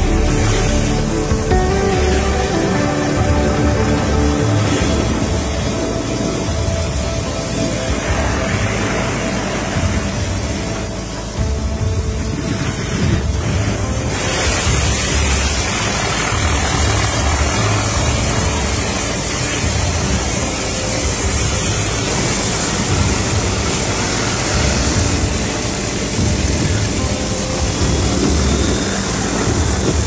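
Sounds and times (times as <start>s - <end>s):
helicopter engine and rotor: 0.0s - 30.0s
wind rushing past microphone: 0.0s - 30.0s.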